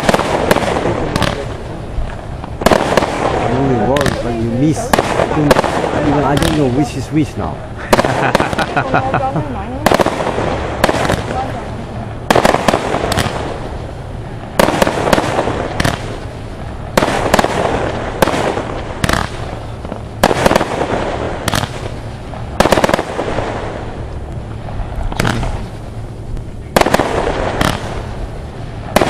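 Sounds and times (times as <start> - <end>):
firework reports with hiss: 0.0 - 29.0.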